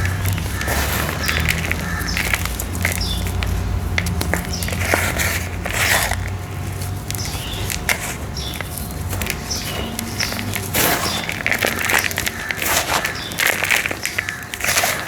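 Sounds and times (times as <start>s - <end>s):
dried dirt crumbling and crunching: 0.0s - 15.0s
steady low hum: 0.0s - 15.0s.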